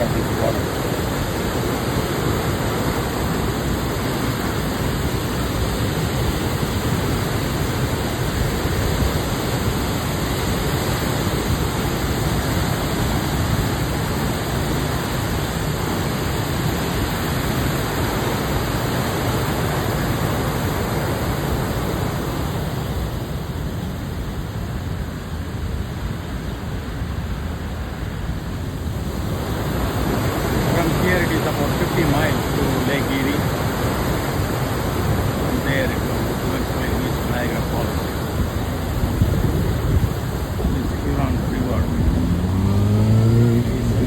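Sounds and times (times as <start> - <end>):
water rushing through dam gates: 0.0 - 23.4, 28.2 - 42.6, 43.5 - 44.0.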